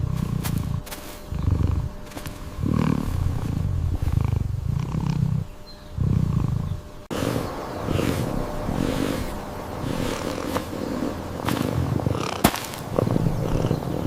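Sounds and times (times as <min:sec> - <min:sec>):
animal low rough calls: 0:00.0 - 0:14.0.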